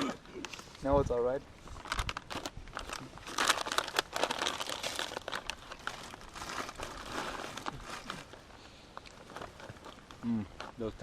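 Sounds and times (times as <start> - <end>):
plastic packaging crinkling: 1.7 - 11.0.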